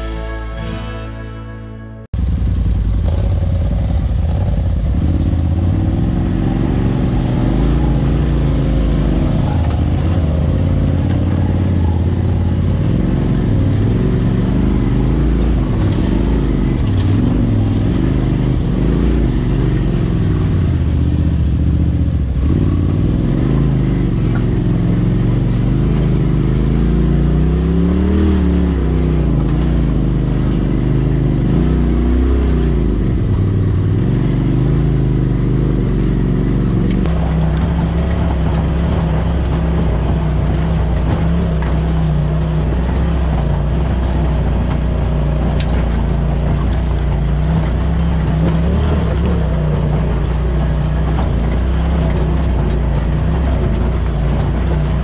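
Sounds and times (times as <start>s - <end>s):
off-road vehicle engine revving: 2.2s - 55.0s.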